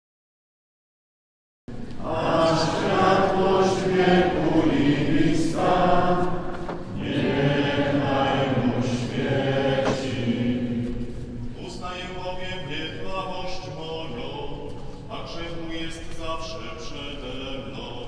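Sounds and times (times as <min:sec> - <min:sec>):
congregation reciting prayers: 0:01.7 - 0:18.0.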